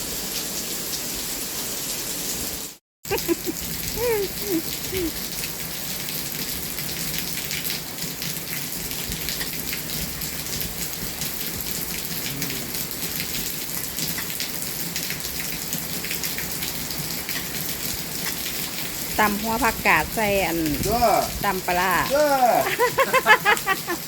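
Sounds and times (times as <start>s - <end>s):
rain pattering: 3.1s - 24.0s.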